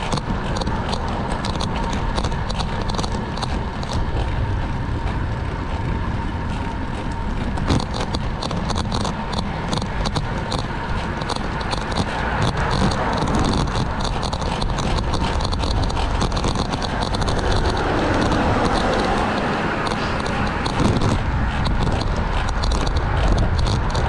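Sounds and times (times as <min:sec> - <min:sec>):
bike tyre and road noise: 0:00.0 - 0:24.0
small high ticks and rattles: 0:00.0 - 0:24.0
wind rushing over microphone: 0:00.0 - 0:24.0.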